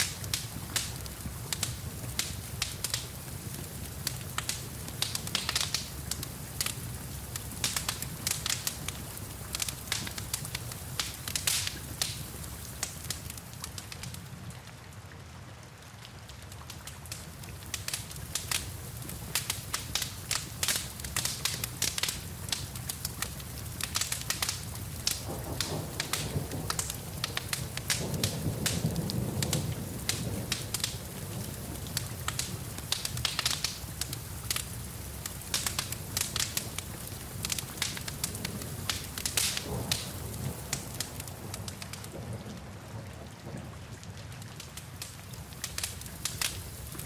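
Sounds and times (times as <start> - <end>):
wood fire crackling and popping: 0.0 - 14.8, 16.0 - 47.0
rain pattering: 0.0 - 47.0.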